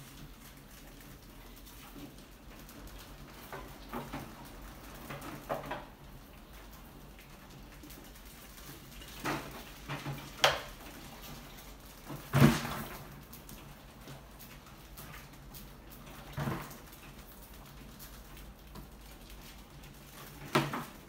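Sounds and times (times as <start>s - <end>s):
rats scrabbling on wire mesh: 0.0s - 21.0s.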